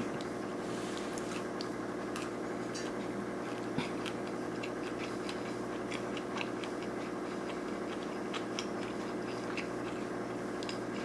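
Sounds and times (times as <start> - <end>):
crunchy chewing of fried shrimp: 0.0 - 11.0.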